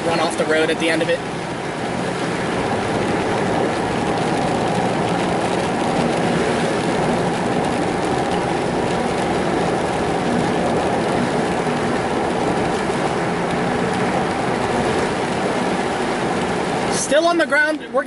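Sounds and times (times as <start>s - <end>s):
low engine hum: 0.0s - 18.0s
tyres running through water: 0.0s - 18.0s.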